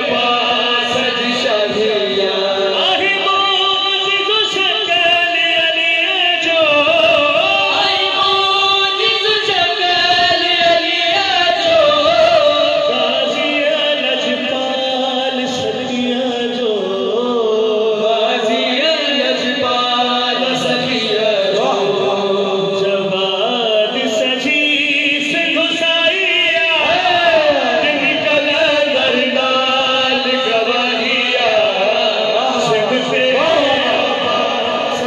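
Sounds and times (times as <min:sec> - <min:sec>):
men singing over sound system: 0:00.0 - 0:35.0.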